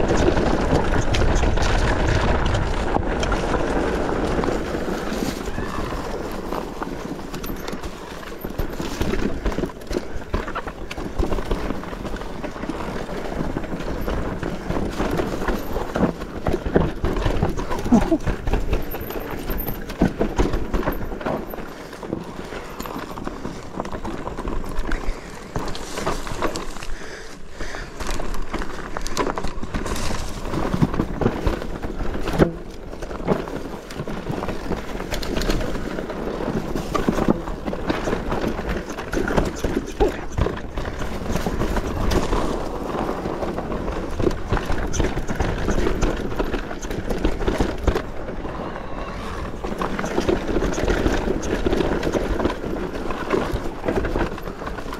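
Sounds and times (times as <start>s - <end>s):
bike rattling: 0.0s - 54.9s
tyres crunching over stones: 0.0s - 54.9s.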